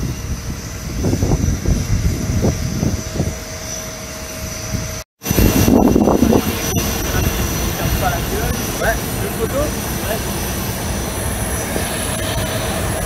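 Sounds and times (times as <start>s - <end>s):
aircraft high whine: 0.0s - 13.0s
low buffeting: 0.0s - 13.0s
rumbling hiss: 0.0s - 13.0s.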